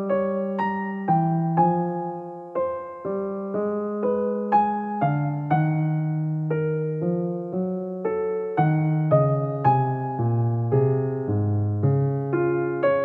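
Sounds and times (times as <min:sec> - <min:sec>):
gentle slow piano music: 0:00.0 - 0:13.0.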